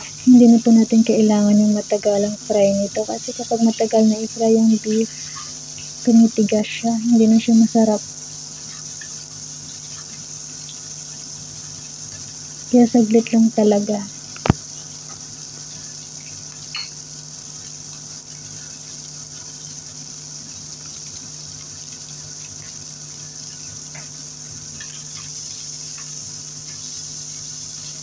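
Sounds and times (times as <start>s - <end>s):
beef sizzling in a frying pan: 0.0s - 28.0s.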